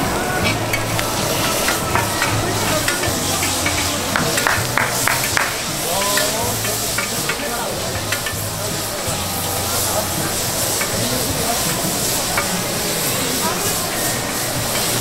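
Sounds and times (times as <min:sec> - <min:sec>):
metal spatula scraping griddle: 0:00.0 - 0:15.0
squid sizzling on a griddle: 0:00.3 - 0:15.0.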